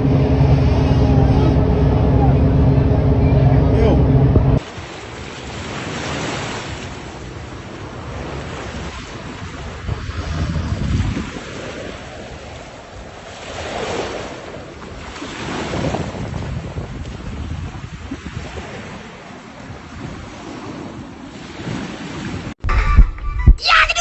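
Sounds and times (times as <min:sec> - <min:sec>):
wind buffeting microphone: 0:00.0 - 0:04.7, 0:07.4 - 0:22.5
waves washing: 0:00.0 - 0:22.6.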